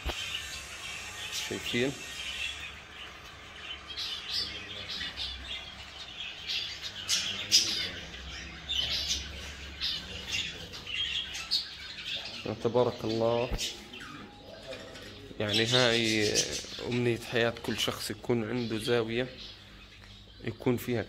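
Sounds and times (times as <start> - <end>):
small birds chirping and squawking: 0.0 - 21.0.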